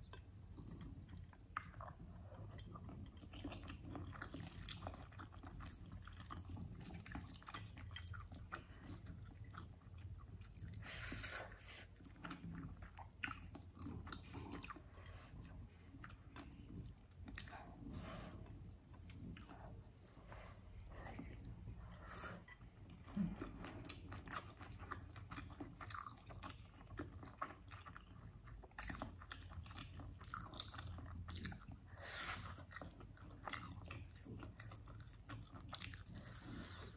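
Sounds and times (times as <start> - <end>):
chewing and wet mouth sounds: 0.0 - 36.9.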